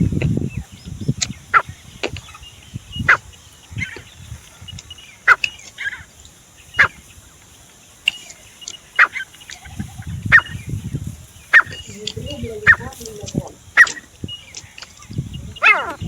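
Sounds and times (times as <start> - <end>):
francolin calling: 0.0 - 16.0.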